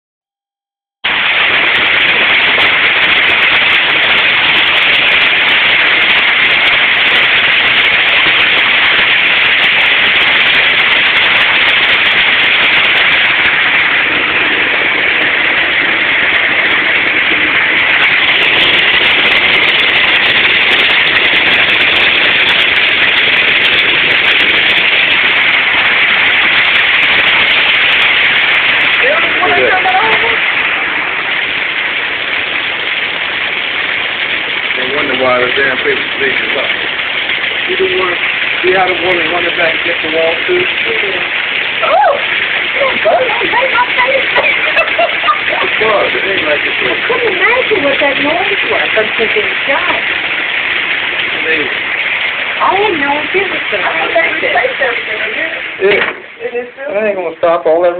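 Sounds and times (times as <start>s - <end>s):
heavy rain pouring: 1.0s - 57.9s.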